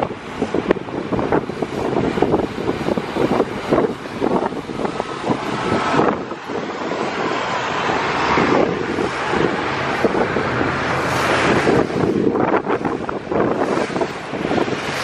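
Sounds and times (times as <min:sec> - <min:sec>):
low engine hum: 0:00.0 - 0:15.0
water rushing: 0:00.0 - 0:15.0
wind buffeting microphone: 0:00.0 - 0:15.0.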